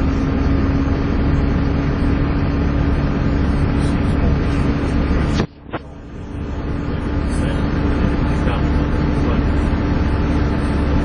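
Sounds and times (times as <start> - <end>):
bus diesel engine rumble: 0.0 - 11.0
steady engine whine: 0.0 - 11.0.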